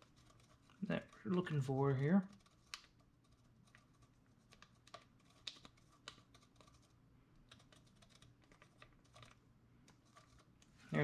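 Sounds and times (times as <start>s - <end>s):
pencil tapping and scratching on tape: 0.0s - 1.6s, 2.2s - 10.7s.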